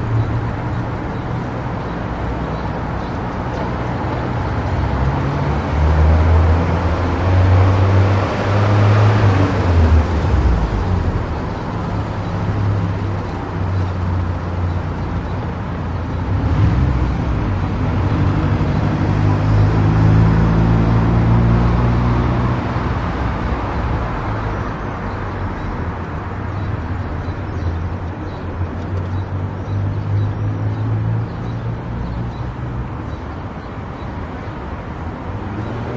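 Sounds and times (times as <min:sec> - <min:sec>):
road and tyre noise: 0:00.0 - 0:35.9.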